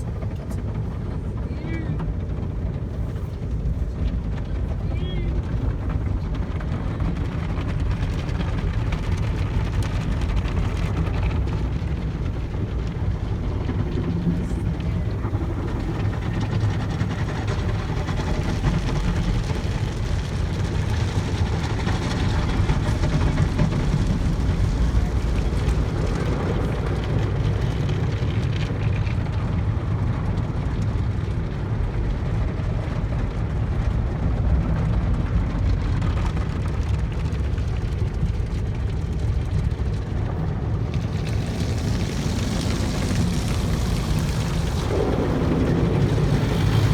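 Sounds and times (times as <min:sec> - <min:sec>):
car wash rumble and hiss: 0:00.0 - 0:46.9.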